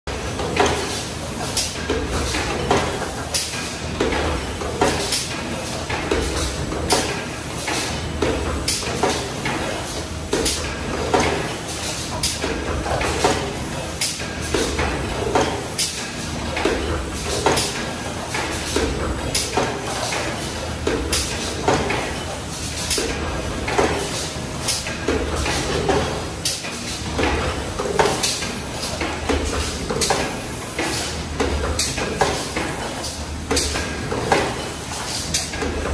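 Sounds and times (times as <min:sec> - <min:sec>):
press stamping rhythmically: 0:00.1 - 0:35.9.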